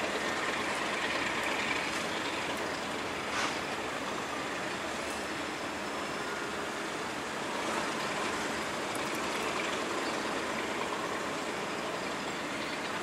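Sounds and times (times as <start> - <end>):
locomotive engine and wheels rumbling: 0.0 - 13.0.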